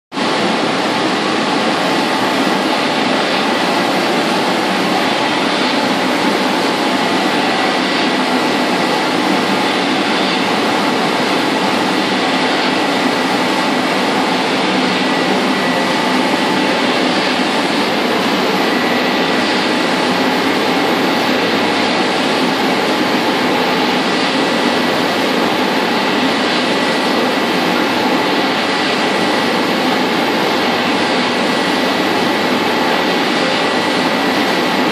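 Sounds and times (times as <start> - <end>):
loud steady machine noise: 0.1 - 34.9
thin high whine: 0.2 - 34.9.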